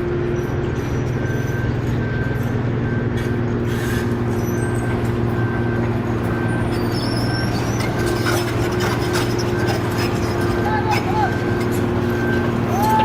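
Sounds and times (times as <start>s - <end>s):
heavy vehicle engine droning: 0.0s - 13.0s.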